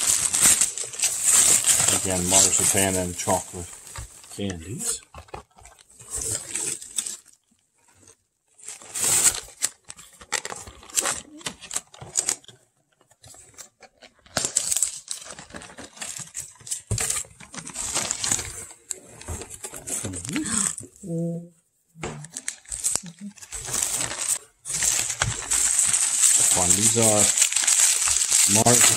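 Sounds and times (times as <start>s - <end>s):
paper and bubble wrap rustling: 0.0s - 20.9s, 22.0s - 28.9s.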